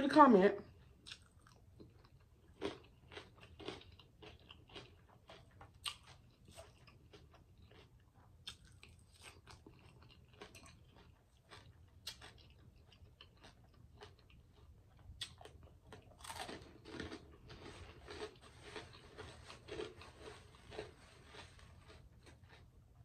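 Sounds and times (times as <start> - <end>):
chewing and biting food: 0.7 - 23.0.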